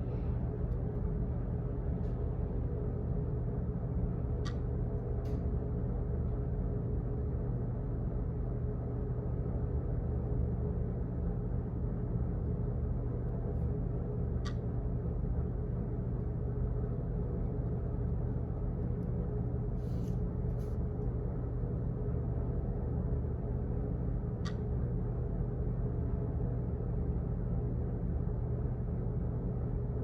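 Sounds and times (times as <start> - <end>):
office background hum: 0.0 - 30.0.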